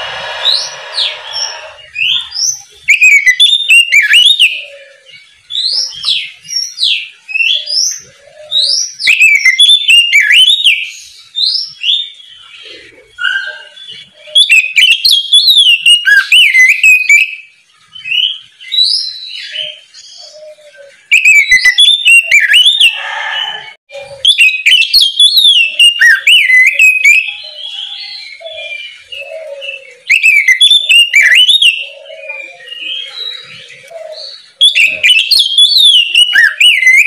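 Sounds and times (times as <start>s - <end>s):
songbird singing varied whistles: 0.0s - 4.7s, 5.6s - 12.2s, 13.2s - 23.6s, 24.2s - 37.0s.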